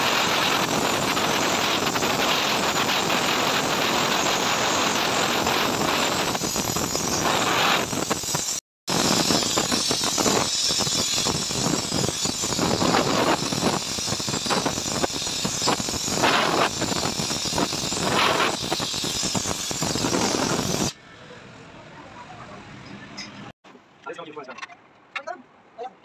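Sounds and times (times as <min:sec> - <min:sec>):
crackling of melting rod: 0:00.0 - 0:21.0
welding torch flame hissing: 0:00.0 - 0:21.0.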